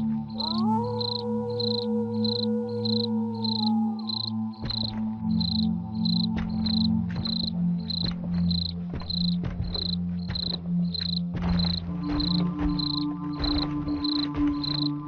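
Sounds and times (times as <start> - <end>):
low droning music: 0.0 - 15.0
cricket chirping: 0.1 - 15.0.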